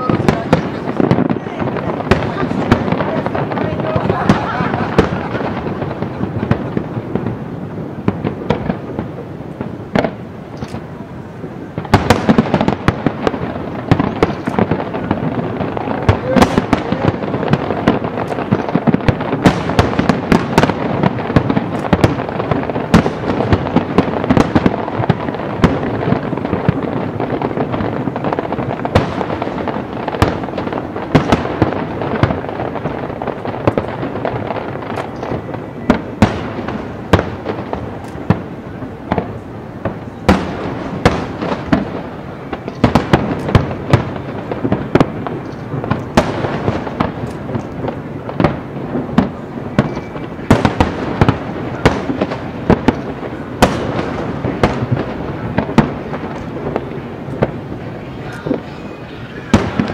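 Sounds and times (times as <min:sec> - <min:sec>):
firework crackling: 0:00.0 - 0:59.9
firework shells booming: 0:00.0 - 0:59.9.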